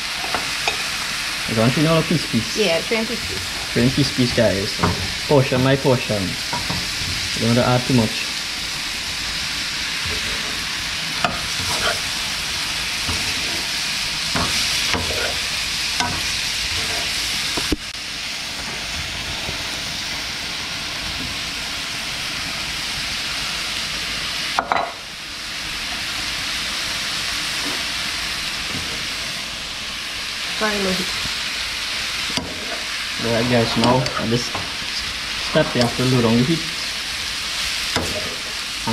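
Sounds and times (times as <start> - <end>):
oil sizzling in a frying pan: 0.0 - 38.9.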